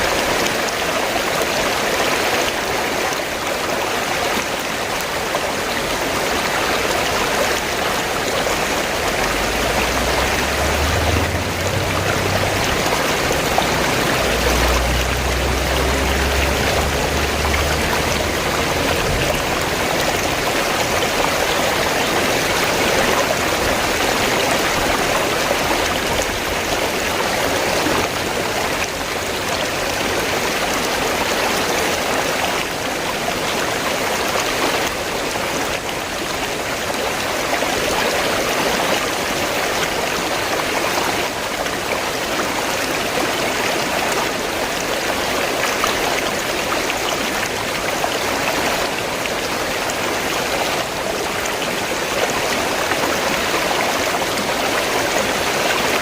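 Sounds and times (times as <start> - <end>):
river water running and splashing: 0.0 - 56.0.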